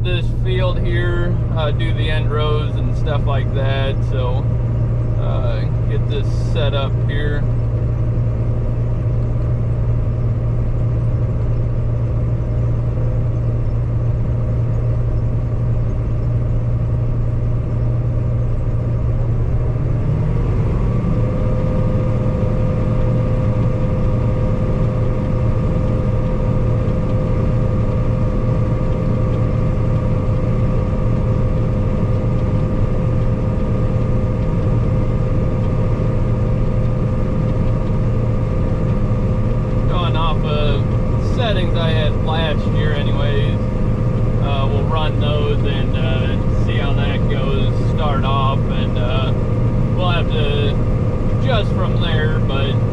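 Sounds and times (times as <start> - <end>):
combine harvester running: 0.0 - 52.9
threshing machinery whine: 0.0 - 52.9.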